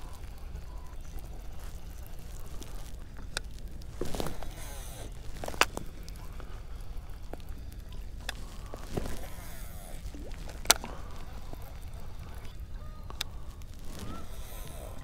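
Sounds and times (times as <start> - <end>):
fishing reel clicks: 0.0 - 15.0.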